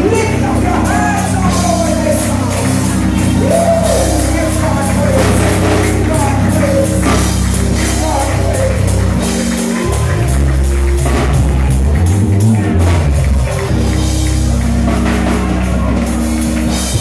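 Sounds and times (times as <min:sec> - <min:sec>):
congregation clapping: 0:00.0 - 0:17.0
deep bass line: 0:00.0 - 0:17.0
drum kit: 0:00.0 - 0:17.0
guitar: 0:00.0 - 0:17.0
live band playing: 0:00.0 - 0:17.0.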